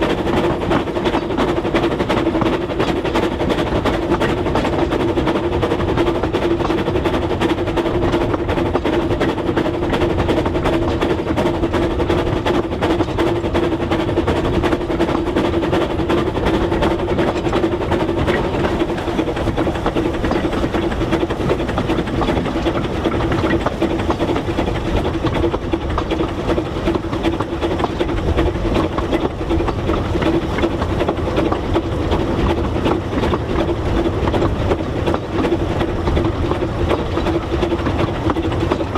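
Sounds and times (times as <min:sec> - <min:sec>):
steady train hum: 0:00.0 - 0:38.9
train wheels clattering on rail: 0:00.0 - 0:38.9.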